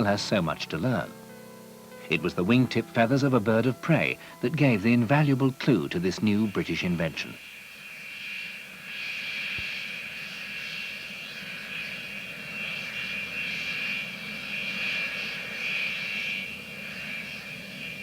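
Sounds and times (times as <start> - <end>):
aircraft engine whine: 0.0 - 18.0.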